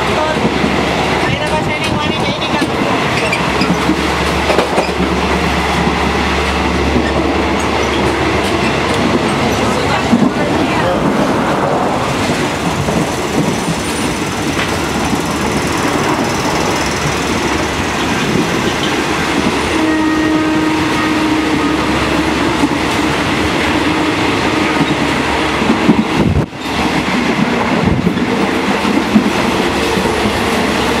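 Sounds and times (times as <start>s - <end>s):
train rumble and rattle: 0.0s - 31.0s.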